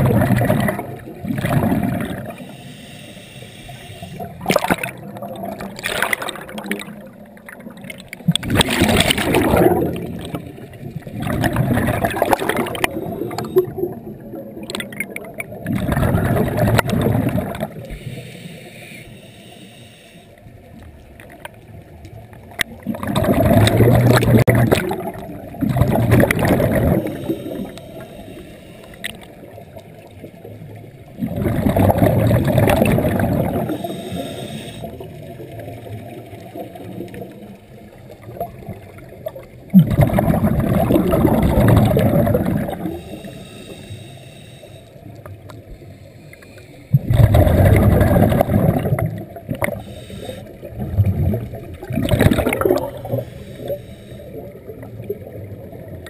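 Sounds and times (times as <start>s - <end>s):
gurgling exhaled bubbles: 0.0s - 2.5s, 4.1s - 18.0s, 22.2s - 27.8s, 29.0s - 43.3s, 46.9s - 56.0s.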